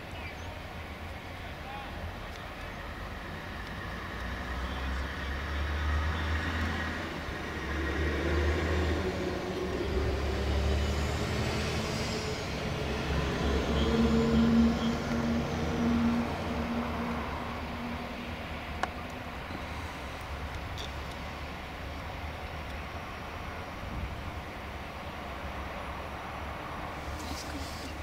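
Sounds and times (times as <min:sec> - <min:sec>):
steady engine hum: 0:00.0 - 0:28.0
traffic passing close by: 0:00.0 - 0:28.0.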